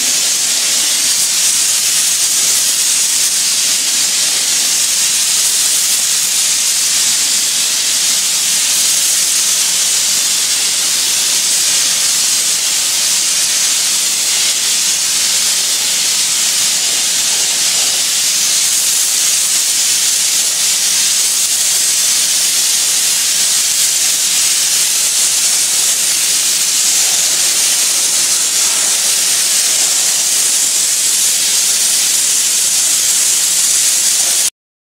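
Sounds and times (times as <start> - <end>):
flame spray gun hissing: 0.0 - 34.5.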